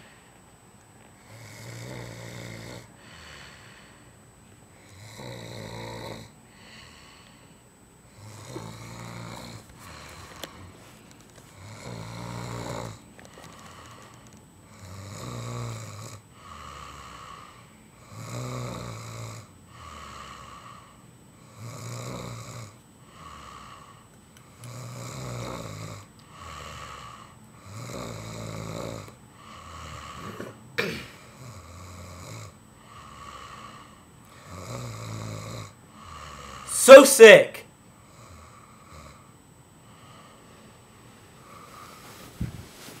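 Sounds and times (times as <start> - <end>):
man snoring: 1.2 - 3.9, 4.8 - 7.4, 8.1 - 10.7, 11.5 - 37.4, 38.0 - 40.4.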